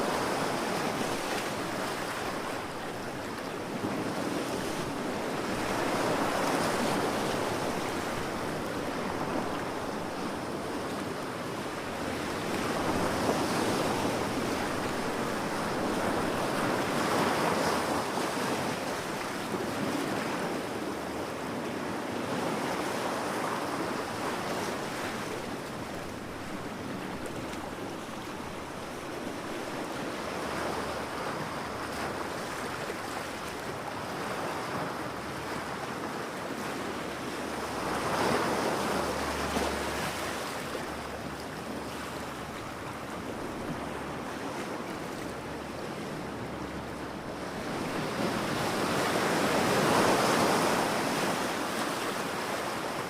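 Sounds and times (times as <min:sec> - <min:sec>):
ocean waves rolling in: 0:00.0 - 0:53.0.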